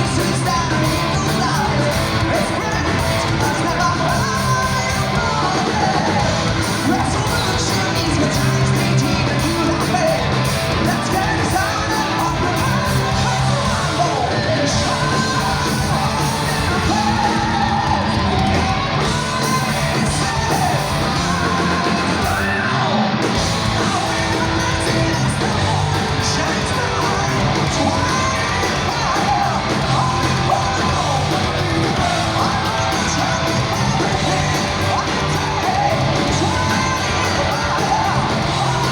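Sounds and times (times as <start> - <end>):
heavy metal band playing: 0.0 - 38.9.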